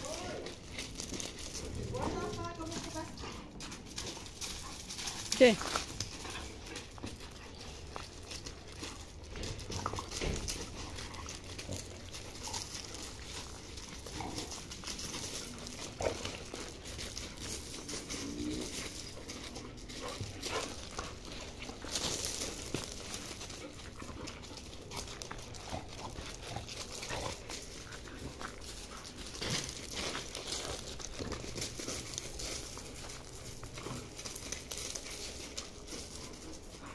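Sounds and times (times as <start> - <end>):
paws scuffling on gravel: 0.0 - 36.9.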